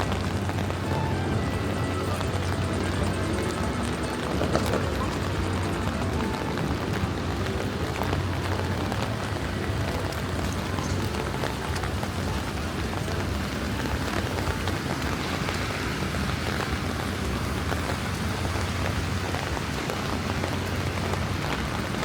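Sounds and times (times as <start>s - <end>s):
rain falling on street: 0.0s - 22.0s.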